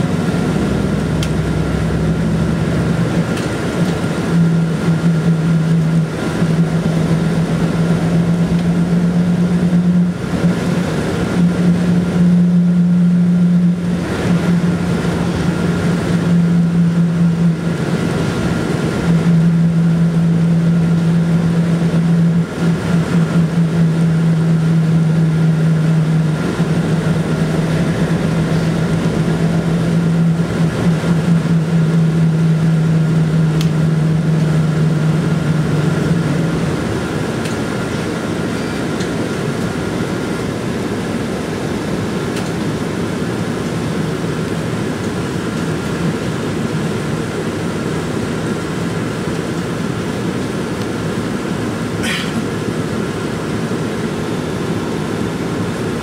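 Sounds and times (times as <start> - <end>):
low engine hum: 0.0 - 56.0
road noise: 0.0 - 56.0.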